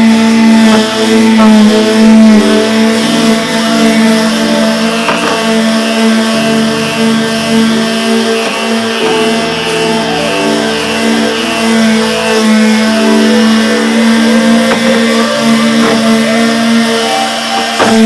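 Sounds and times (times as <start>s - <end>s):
music of sustained notes: 0.0s - 18.0s.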